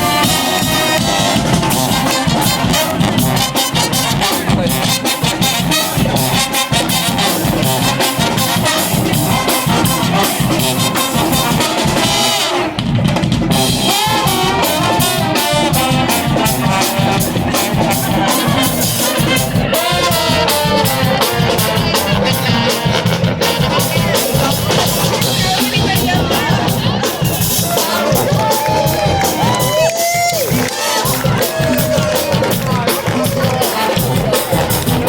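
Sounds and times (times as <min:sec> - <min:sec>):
drum kit beat: 0:00.0 - 0:35.0
trumpets and trombones: 0:00.0 - 0:35.0.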